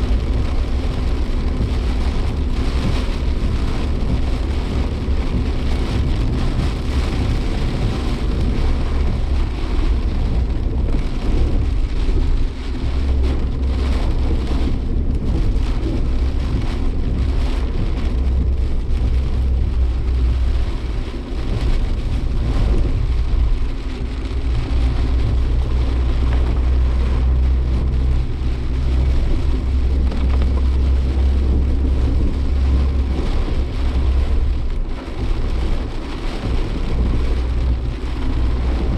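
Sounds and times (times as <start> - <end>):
car engine and road rumble: 0.0 - 38.9
rain pattering on car body: 0.0 - 38.9.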